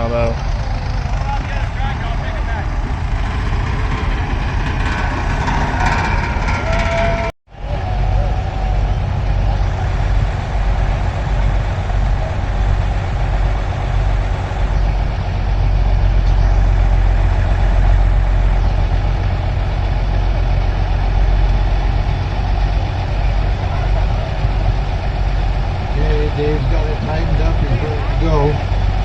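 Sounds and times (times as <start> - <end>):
tractor engine rumbling: 0.0 - 29.0.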